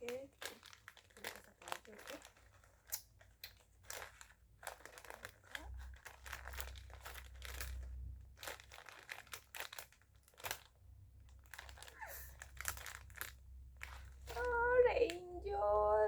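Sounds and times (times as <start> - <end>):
plastic packet crinkling: 0.0 - 15.6.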